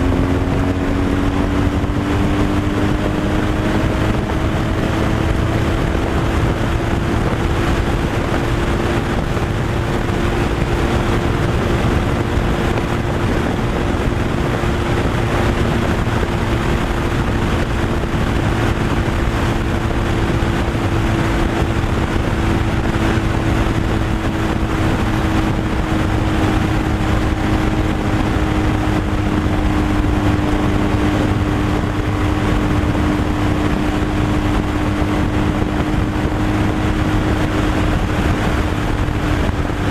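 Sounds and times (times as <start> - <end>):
road and wind noise: 0.0 - 39.9
truck engine droning: 0.0 - 39.9.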